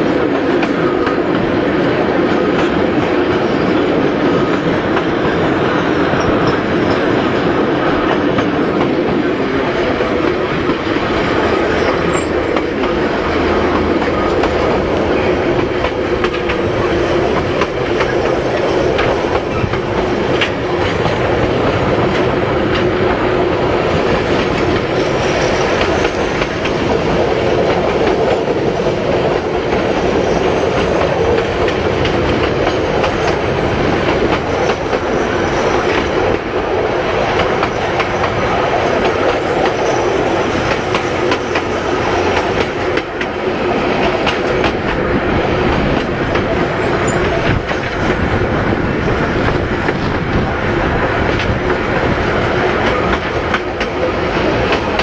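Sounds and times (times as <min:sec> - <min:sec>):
train wheel clicks: 0:00.0 - 0:55.0
train wheels rumbling on rail: 0:00.0 - 0:55.0.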